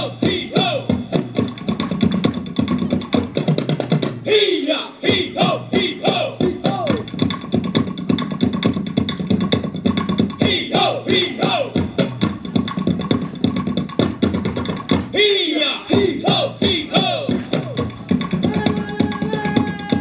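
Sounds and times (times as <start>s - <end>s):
rapid percussive strikes: 0.0s - 20.0s.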